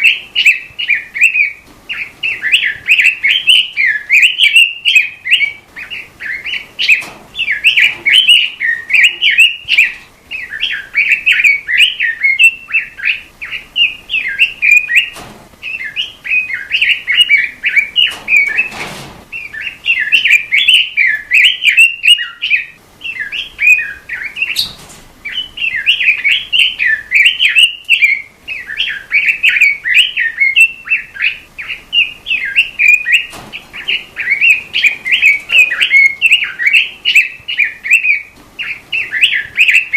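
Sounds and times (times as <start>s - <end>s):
robin singing: 0.0s - 39.9s.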